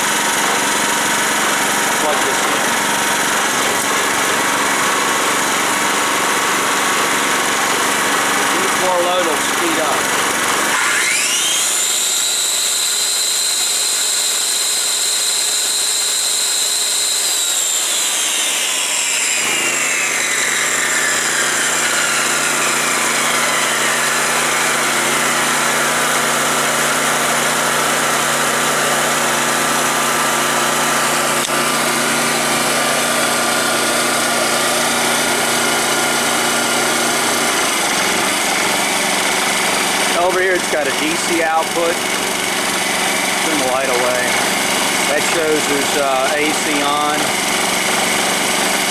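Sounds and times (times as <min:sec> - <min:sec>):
generator whine: 0:00.0 - 0:48.9.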